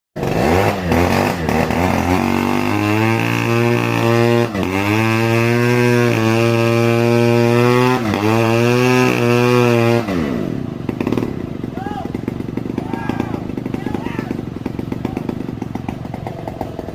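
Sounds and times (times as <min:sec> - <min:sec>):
chainsaw engine revving: 0:00.2 - 0:16.9.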